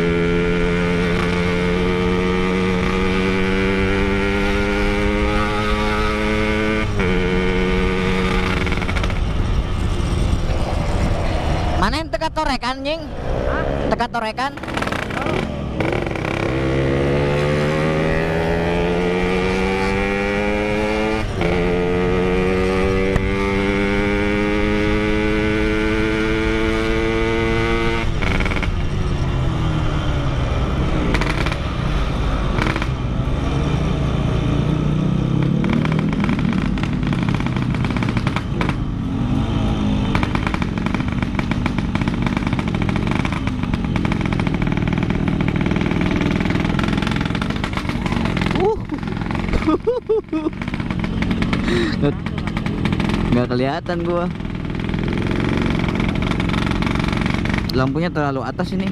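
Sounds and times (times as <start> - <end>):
two-stroke motorcycle engine revving: 0.0 - 12.5, 13.4 - 58.9.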